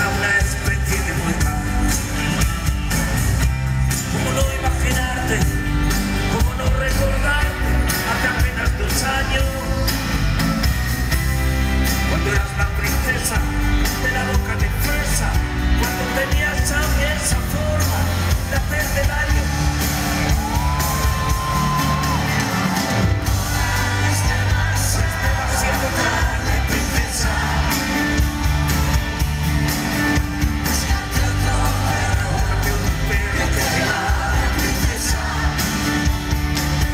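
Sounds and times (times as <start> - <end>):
man singing: 0.0 - 2.4, 3.8 - 10.3, 11.9 - 22.4, 23.5 - 29.0, 30.1 - 36.2
guitar: 0.0 - 36.9
keyboards: 0.0 - 36.9.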